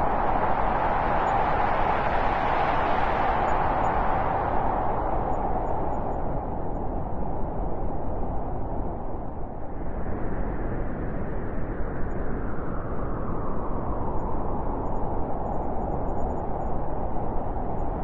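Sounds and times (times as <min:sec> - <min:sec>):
blizzard wind blowing: 0:00.0 - 0:18.0.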